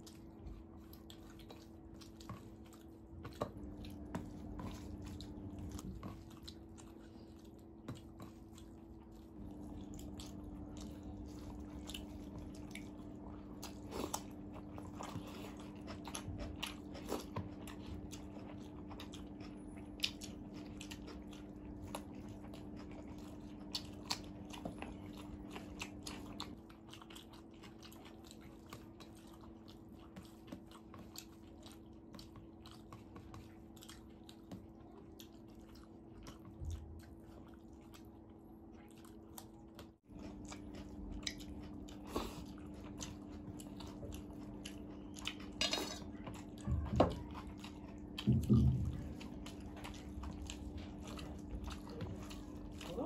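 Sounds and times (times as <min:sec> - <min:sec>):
people chewing and crunching: 0:00.0 - 0:53.0
steady low hum: 0:00.0 - 0:53.0.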